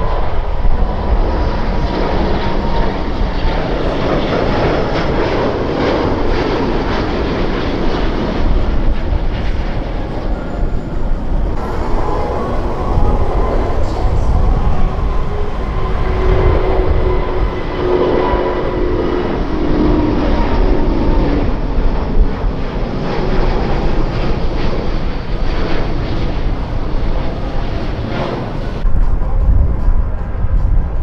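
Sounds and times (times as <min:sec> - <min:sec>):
jet engines passing: 0:00.0 - 0:31.0.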